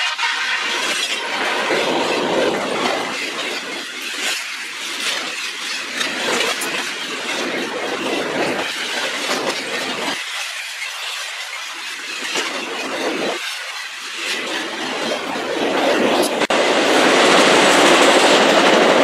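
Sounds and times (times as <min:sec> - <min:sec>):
freight train rumbling past: 0:00.0 - 0:19.0
train wheels clicking: 0:00.0 - 0:19.0.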